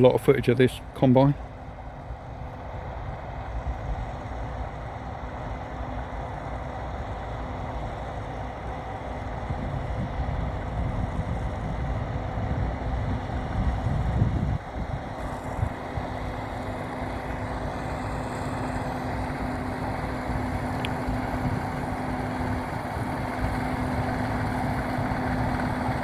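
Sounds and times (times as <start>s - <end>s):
combine harvester running: 0.0s - 26.0s.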